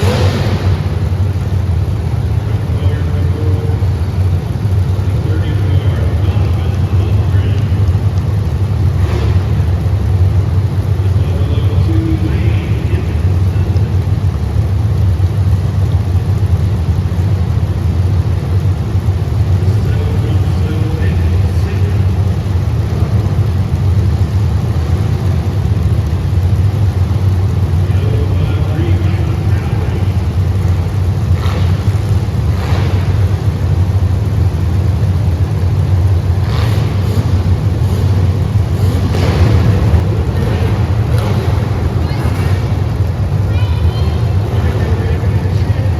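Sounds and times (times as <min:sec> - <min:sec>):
car engines rumbling: 0:00.0 - 0:45.9.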